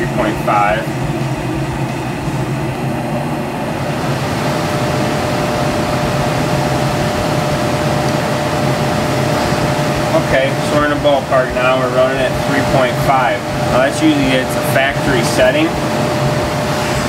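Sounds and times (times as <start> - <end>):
gas furnace humming: 0.0 - 17.0.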